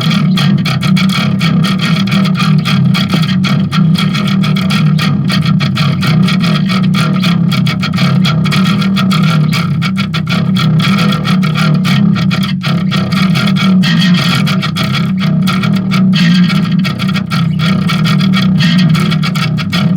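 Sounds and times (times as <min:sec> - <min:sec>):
distorted electric bass: 0:00.0 - 0:19.9.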